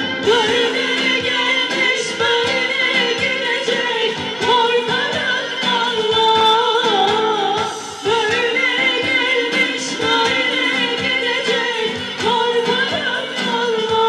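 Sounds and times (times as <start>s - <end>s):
live band with violin and keyboard: 0.0s - 14.0s
women singing into microphones: 0.0s - 14.0s.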